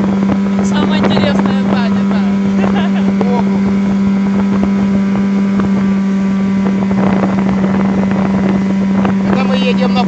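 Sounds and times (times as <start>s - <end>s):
outboard motor running: 0.0s - 10.0s
wind buffeting microphone: 0.0s - 10.0s.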